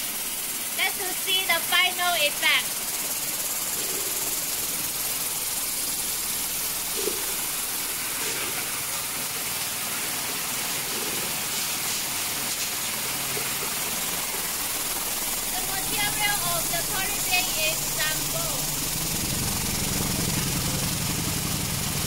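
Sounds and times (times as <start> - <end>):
vibratory polishing machine hissing: 0.0 - 22.0.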